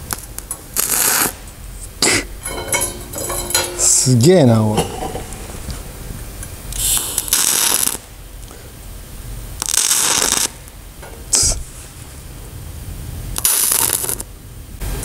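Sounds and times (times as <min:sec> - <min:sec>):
welding arc crackling and spitting: 0:00.0 - 0:12.6, 0:13.2 - 0:15.0.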